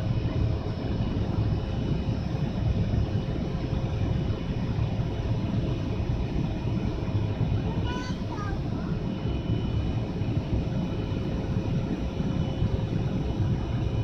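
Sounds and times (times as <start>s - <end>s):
jet engine cabin rumble: 0.0s - 14.0s
steady cabin hum: 0.0s - 14.0s.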